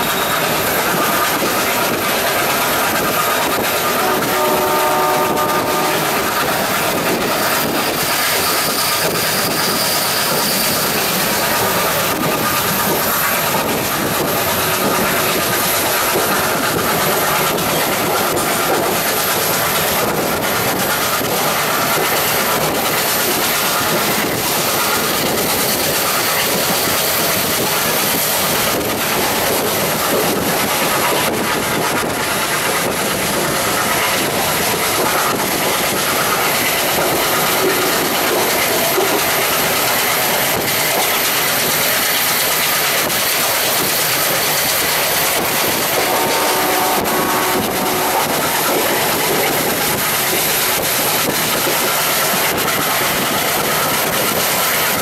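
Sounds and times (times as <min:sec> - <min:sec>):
train coach rumbling: 0:00.0 - 0:55.0.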